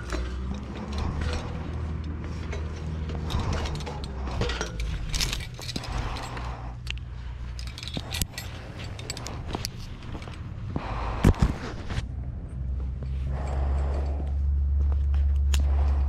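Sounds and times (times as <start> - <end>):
metal hardware clicking and rattling: 0.0 - 10.7, 13.0 - 16.0
low steady hum: 0.0 - 16.0.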